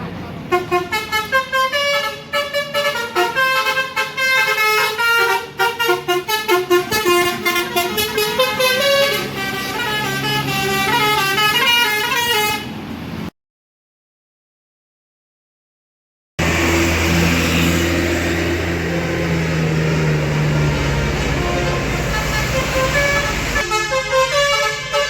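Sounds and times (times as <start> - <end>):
multi-tone musical bus horn: 0.5 - 12.8, 16.4 - 25.0.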